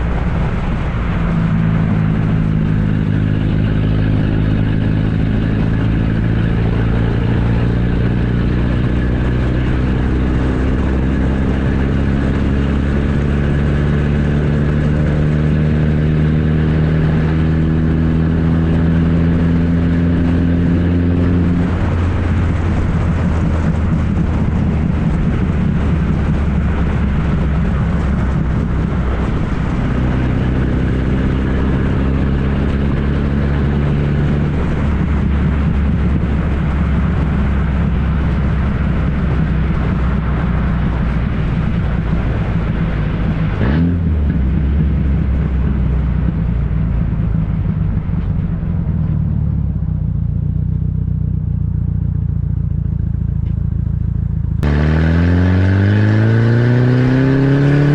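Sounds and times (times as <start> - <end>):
loud engine exhaust drone: 0.0 - 57.9.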